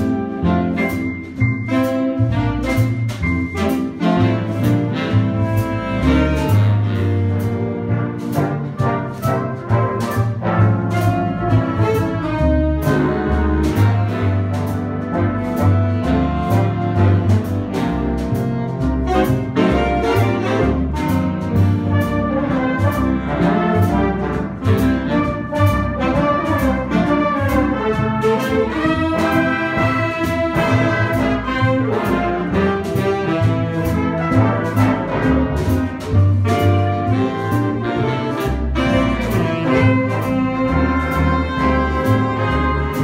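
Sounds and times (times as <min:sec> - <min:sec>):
big band jazz playing: 0:00.0 - 0:43.0.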